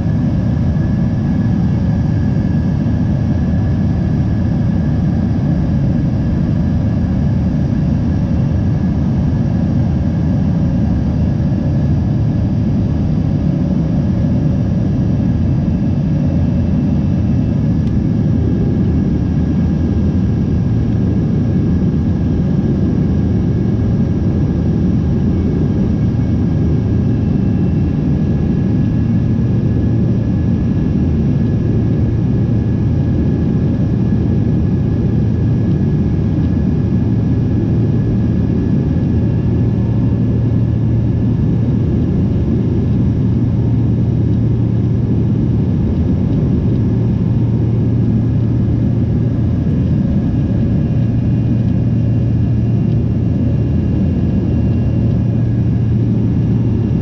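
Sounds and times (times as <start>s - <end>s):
faint steady whine: 0.0s - 57.0s
jet engine low rumble: 0.0s - 57.0s.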